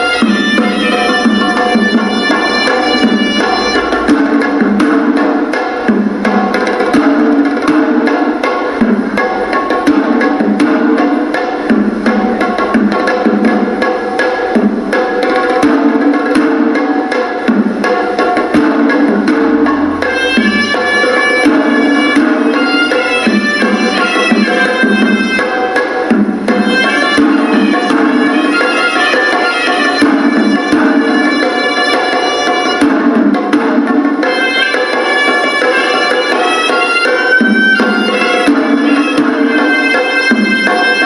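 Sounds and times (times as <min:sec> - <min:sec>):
drums beating a dense rhythm: 0:00.0 - 0:41.0
reedy shawm melody: 0:00.0 - 0:41.0.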